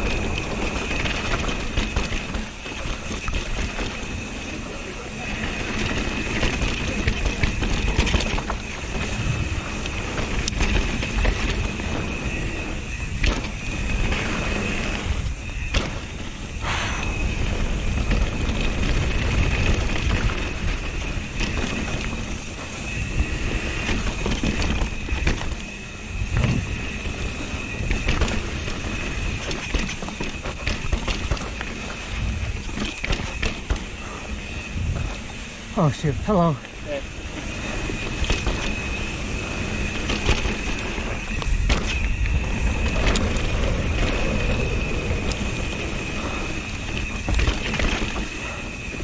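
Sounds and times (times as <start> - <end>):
bike knocks and rattles: 0.0 - 16.4, 17.4 - 34.2, 37.2 - 49.0
bike tyres rolling on dirt: 0.0 - 49.0
high steady whine: 0.0 - 49.0
wind rushing over microphone: 0.0 - 49.0.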